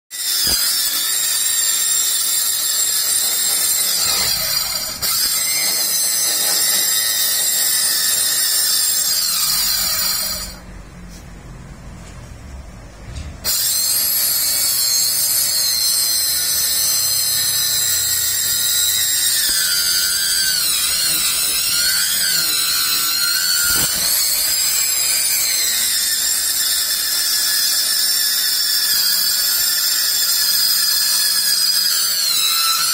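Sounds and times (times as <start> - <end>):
electric saw whining: 0.2 - 10.7, 13.4 - 32.9.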